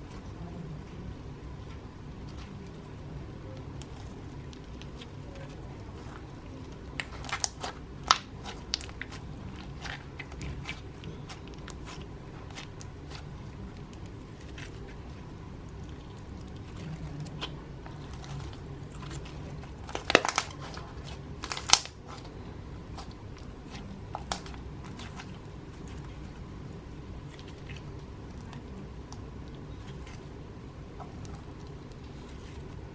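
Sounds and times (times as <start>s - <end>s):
slime squished by hand: 1.6s - 32.9s.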